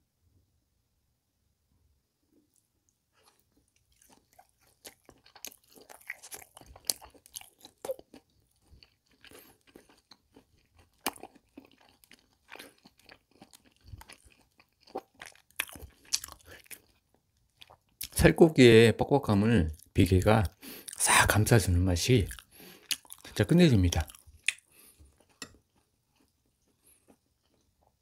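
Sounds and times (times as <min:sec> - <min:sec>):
person chewing food: 0:02.4 - 0:18.2, 0:19.8 - 0:21.0, 0:22.2 - 0:28.0.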